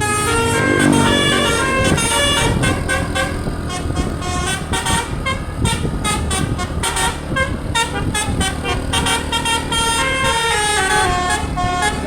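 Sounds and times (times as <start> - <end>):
bus engine rumble: 0.0 - 12.0
musical air horn playing a tune: 0.0 - 12.0.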